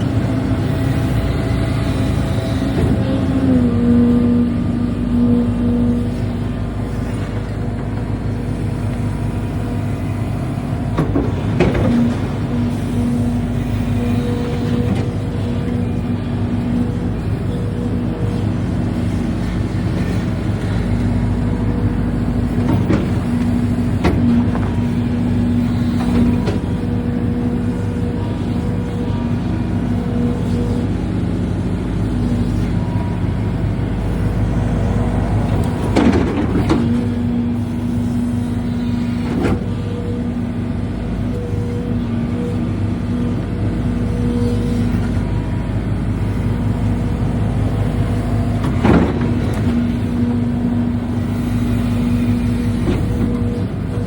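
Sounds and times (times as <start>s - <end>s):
excavator diesel engine running: 0.0s - 54.0s
hydraulic whine: 0.0s - 54.0s.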